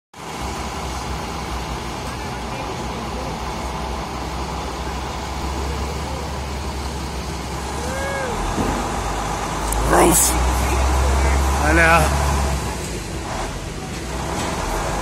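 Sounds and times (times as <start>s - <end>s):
diesel truck engine rumbling: 0.3s - 15.0s.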